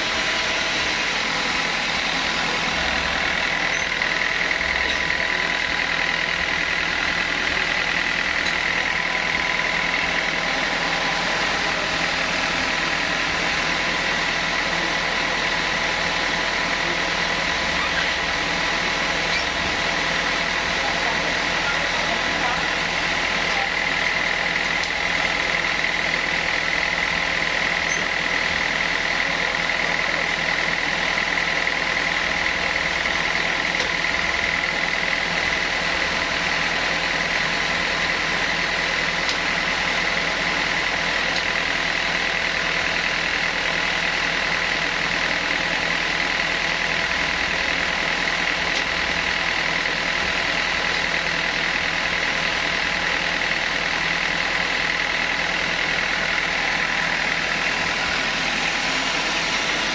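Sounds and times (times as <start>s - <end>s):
sawmill machinery drone and whine: 0.0s - 59.9s.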